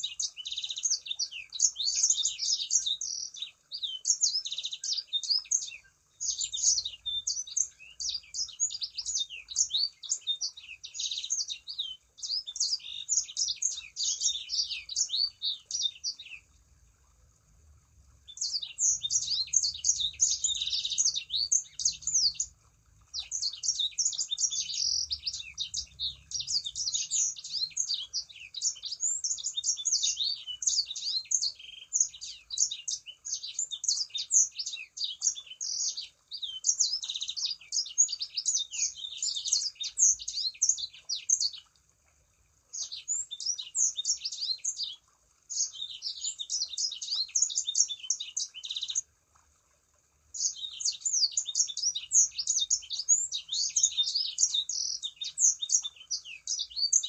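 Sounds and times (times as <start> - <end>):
songbird chirping and trilling: 0.0 - 49.6, 50.2 - 57.0.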